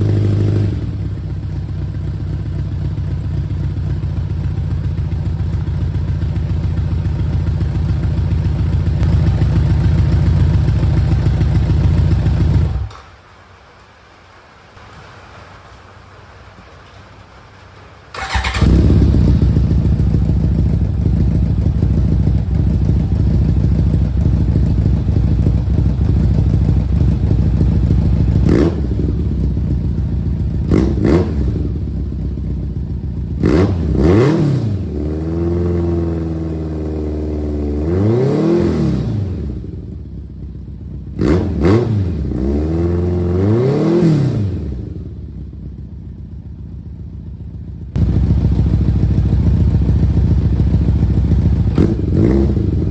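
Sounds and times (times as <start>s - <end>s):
motorcycle engine idling and revving: 0.0s - 13.0s, 18.1s - 52.9s.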